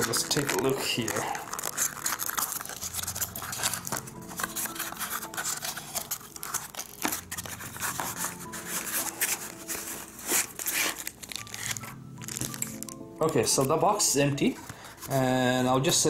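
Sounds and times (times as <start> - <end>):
cardboard box being opened: 0.0 - 13.8
plastic wrapping crinkling: 0.0 - 16.0.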